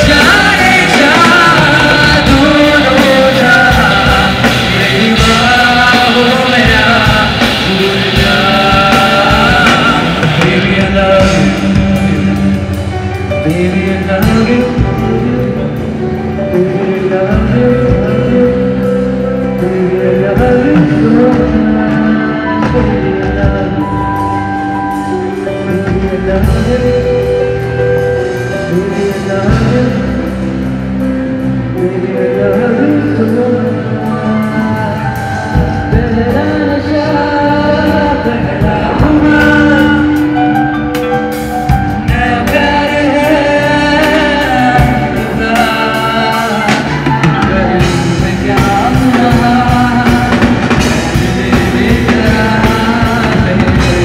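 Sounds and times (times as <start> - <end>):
band music: 0.0 - 54.0
drums: 0.0 - 54.0
electric guitar: 0.0 - 54.0
man singing into a microphone: 0.0 - 54.0.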